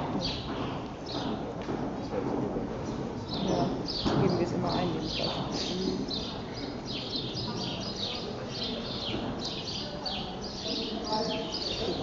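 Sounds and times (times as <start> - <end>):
small birds chirping: 0.1 - 1.4, 3.2 - 12.0.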